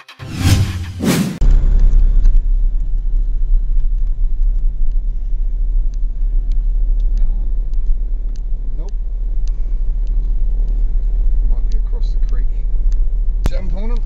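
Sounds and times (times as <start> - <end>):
vehicle engine and tyres rumbling: 0.2 - 14.0.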